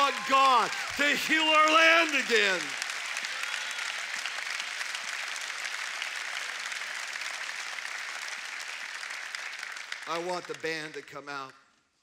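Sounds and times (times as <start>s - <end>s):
congregation applauding: 0.0s - 11.8s.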